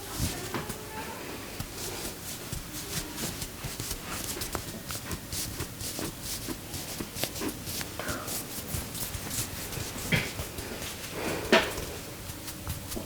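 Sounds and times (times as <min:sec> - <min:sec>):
hands tapping and rubbing hair: 0:00.0 - 0:13.0.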